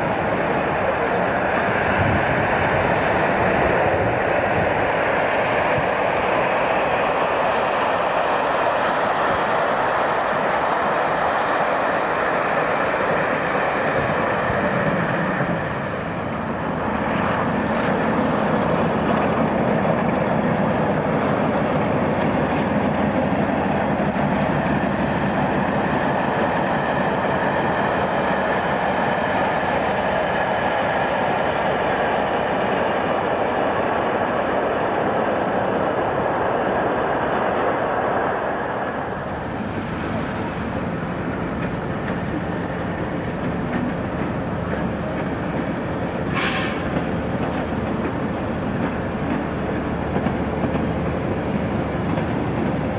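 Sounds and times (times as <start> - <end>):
diesel train rumbling: 0.0 - 52.9.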